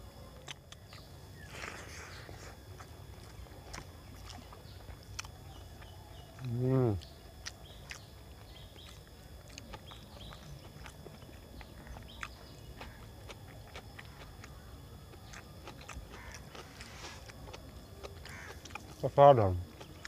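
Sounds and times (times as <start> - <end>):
chewing and mouth smacks: 0.2 - 20.0.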